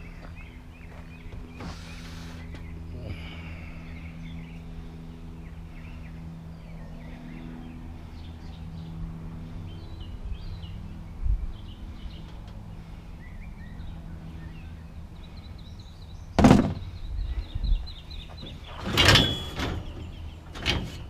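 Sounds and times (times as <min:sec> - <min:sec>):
small birds chirping: 0:00.0 - 0:19.0, 0:19.8 - 0:20.6.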